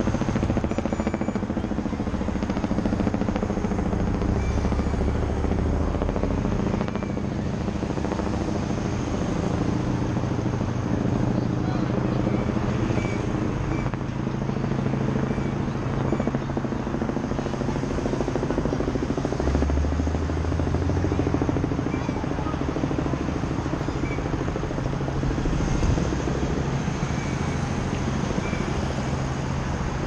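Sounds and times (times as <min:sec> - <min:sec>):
engine drone with fast pulse: 0:00.0 - 0:30.0.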